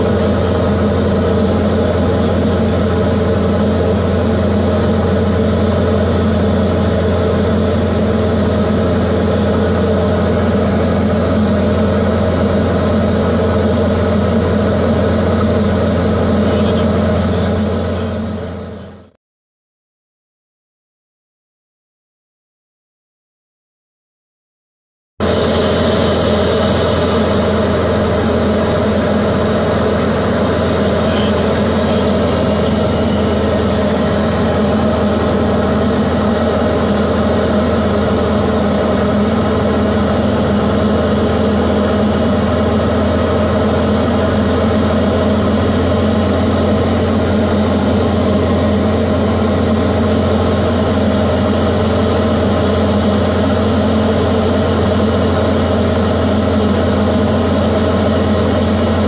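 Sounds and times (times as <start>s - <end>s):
aircraft engine and propeller droning: 0.0s - 19.1s, 25.2s - 59.0s.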